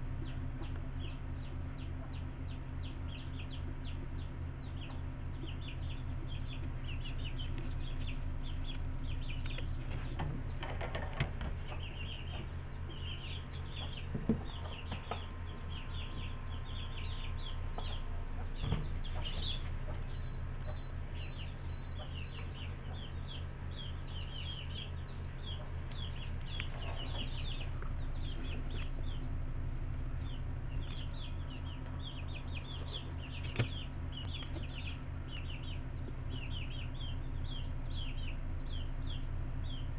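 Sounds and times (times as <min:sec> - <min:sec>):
chickens peeping: 0:00.0 - 0:39.9
steady low hum: 0:00.0 - 0:39.9.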